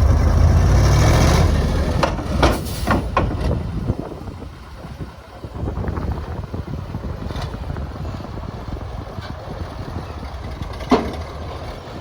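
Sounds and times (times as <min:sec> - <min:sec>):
dump truck engine rumbling: 0:00.0 - 0:12.0.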